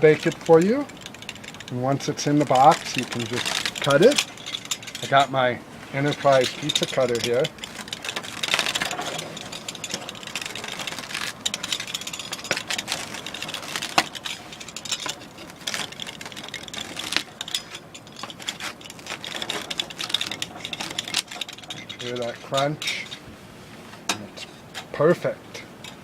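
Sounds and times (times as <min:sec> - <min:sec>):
pizza cutter crunching through crust: 0:00.0 - 0:04.4, 0:06.0 - 0:23.3.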